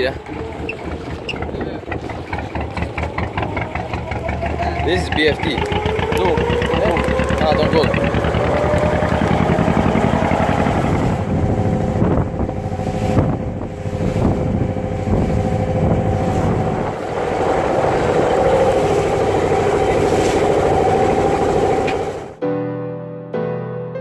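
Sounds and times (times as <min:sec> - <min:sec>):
boat engine running: 0:00.0 - 0:22.4
rush of wind and water: 0:00.0 - 0:22.4.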